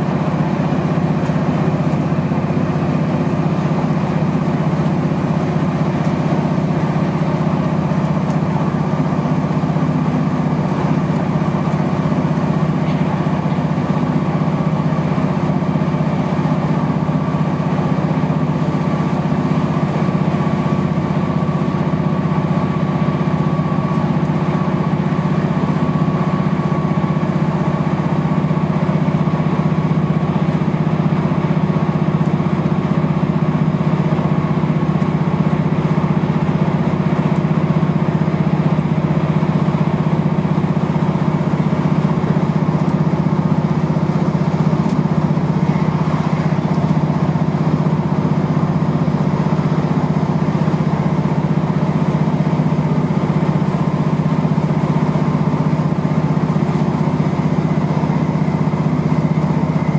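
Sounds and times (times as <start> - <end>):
low train engine drone: 0.0 - 59.9.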